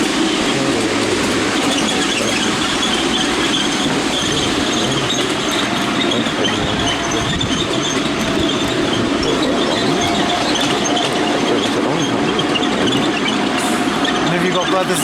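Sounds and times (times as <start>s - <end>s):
wheels clattering on rails: 0.0s - 15.0s.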